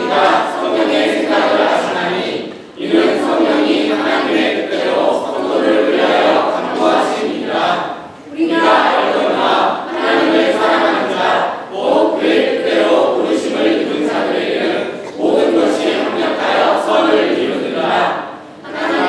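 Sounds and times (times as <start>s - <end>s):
group reciting in unison: 0.0s - 19.0s.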